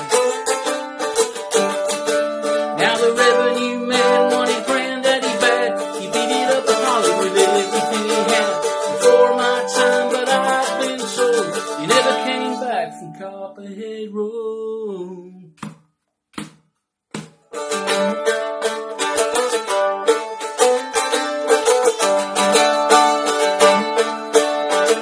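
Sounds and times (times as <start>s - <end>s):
mandolin strumming: 0.0s - 13.8s, 16.4s - 25.0s.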